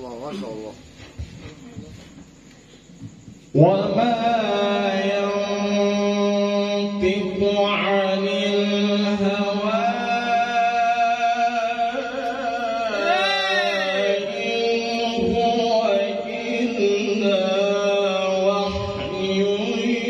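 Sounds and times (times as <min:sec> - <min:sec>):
melodic recitation into microphone: 0:03.1 - 0:20.0.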